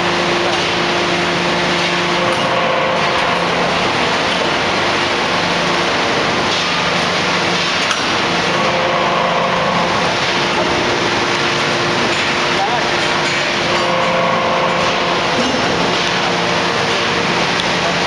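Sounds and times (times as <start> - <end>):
hydraulic press machine noise: 0.0 - 18.0.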